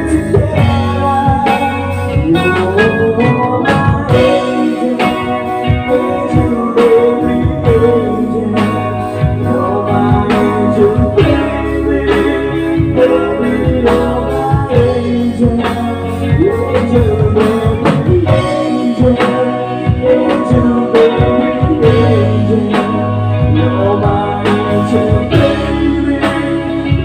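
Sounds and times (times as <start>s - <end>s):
live band playing pop song: 0.0s - 27.0s
steady drumbeat: 0.0s - 27.0s.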